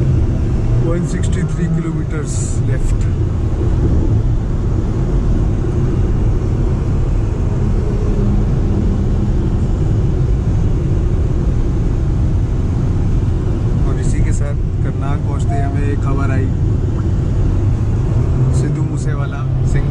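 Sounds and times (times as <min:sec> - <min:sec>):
road and tyre rumble inside car: 0:00.0 - 0:19.9.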